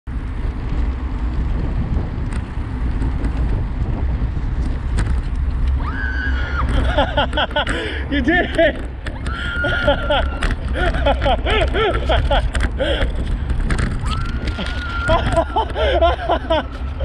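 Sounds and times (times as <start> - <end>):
road noise over cracked asphalt: 0.0 - 17.0
wind rumble on microphone: 0.1 - 17.0.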